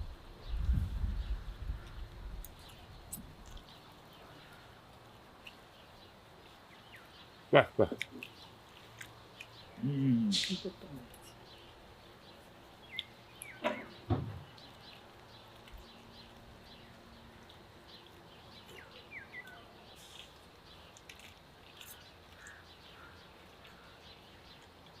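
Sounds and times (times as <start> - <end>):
small birds chirping: 0.1 - 25.0.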